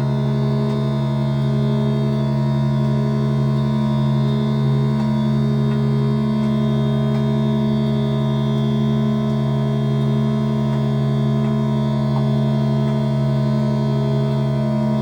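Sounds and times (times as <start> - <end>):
synthesizer drone: 0.0 - 15.0.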